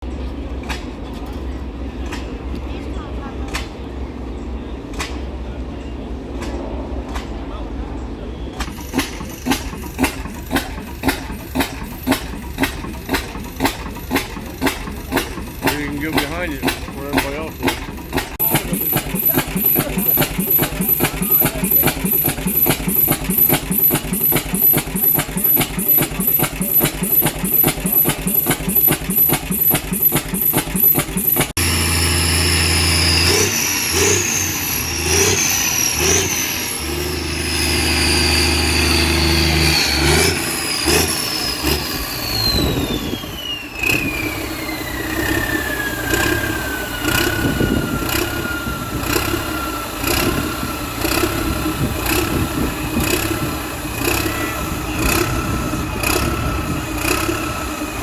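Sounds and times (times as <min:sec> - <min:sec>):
truck engine running: 0:00.0 - 0:58.0
whine changing pitch: 0:08.7 - 0:56.9.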